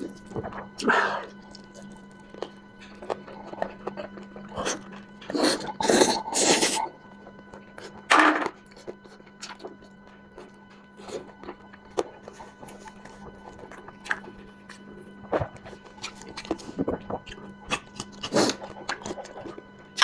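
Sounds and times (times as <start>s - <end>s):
person chewing: 0.0s - 8.1s, 8.7s - 20.0s.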